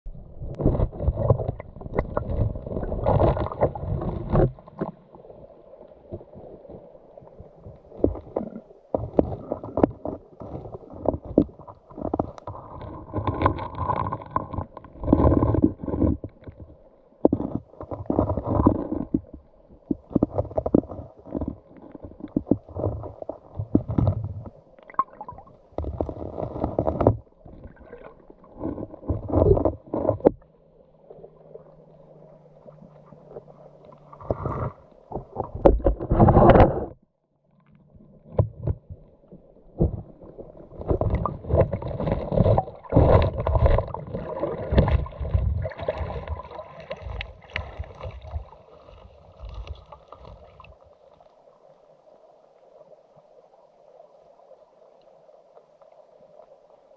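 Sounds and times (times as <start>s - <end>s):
muffled underwater sloshing: 0.0s - 56.9s.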